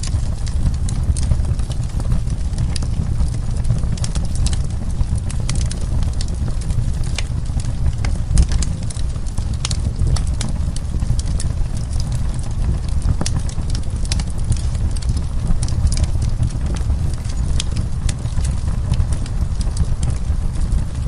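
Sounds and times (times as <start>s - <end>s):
steady low rumble: 0.0s - 21.0s
wood fire crackling and popping: 0.0s - 21.0s.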